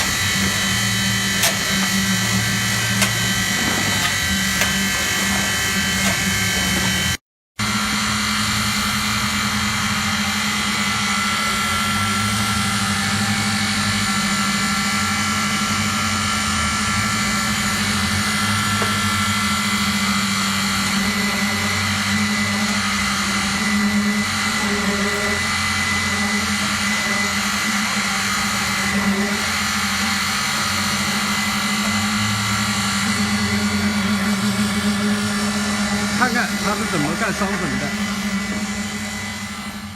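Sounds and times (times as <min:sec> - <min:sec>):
engine hum: 0:00.0 - 0:39.9
steady high whines: 0:00.0 - 0:39.9.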